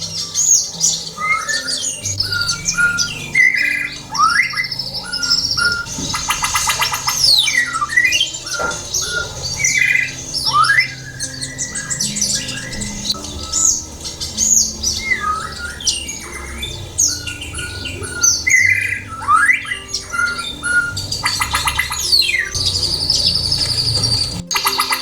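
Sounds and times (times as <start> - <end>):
bird singing whistled notes: 0.0 - 25.0
soft background music: 0.0 - 25.0.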